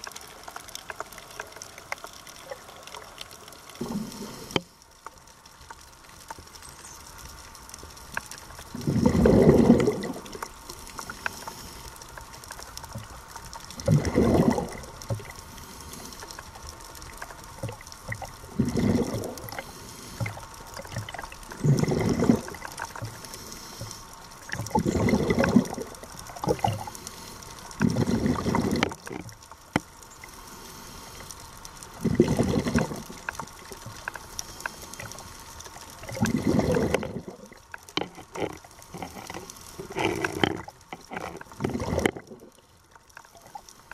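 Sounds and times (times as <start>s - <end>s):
exhaled bubbles gurgling underwater: 0.0s - 4.8s, 6.6s - 43.9s
faint steady hiss: 0.0s - 43.9s.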